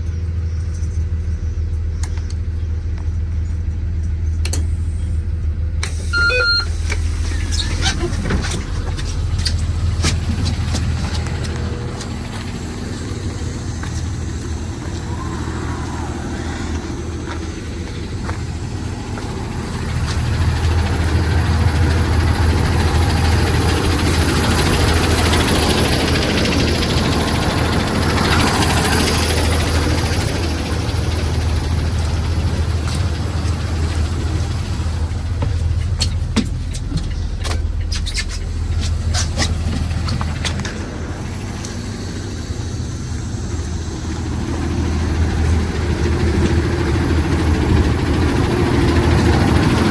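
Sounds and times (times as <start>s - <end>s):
bus engine idling: 0.0s - 49.9s.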